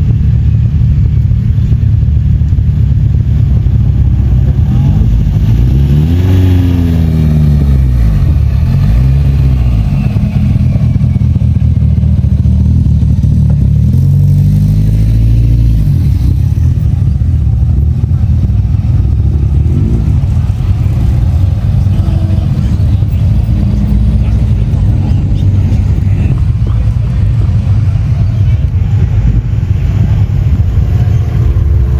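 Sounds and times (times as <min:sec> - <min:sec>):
classic car engines driving past: 0:00.0 - 0:31.9.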